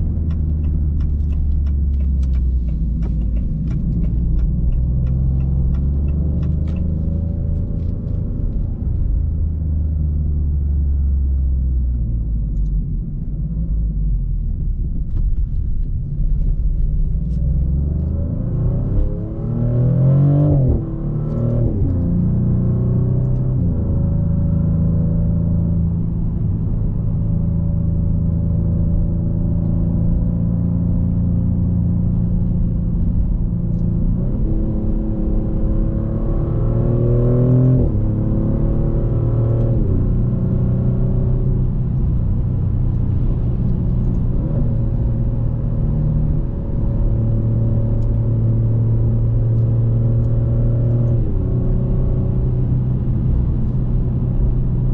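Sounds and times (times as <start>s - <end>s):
engine revving with gear shifts: 0.0s - 12.8s, 16.2s - 54.9s
car engine cruising: 0.0s - 54.9s.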